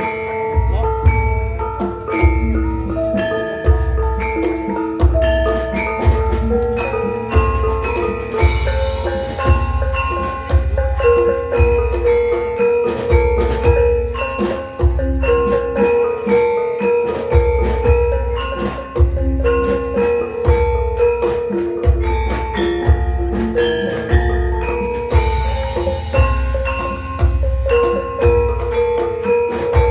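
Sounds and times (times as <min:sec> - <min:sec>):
metallophones ringing a melody: 0:00.0 - 0:29.9.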